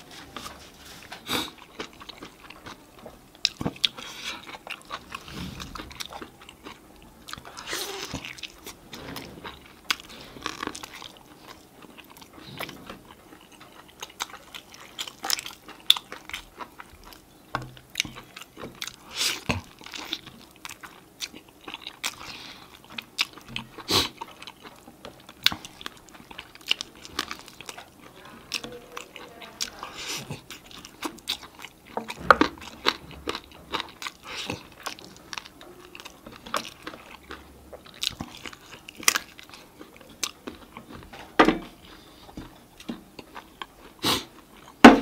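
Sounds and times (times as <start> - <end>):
chewing and biting food: 0.0 - 45.0.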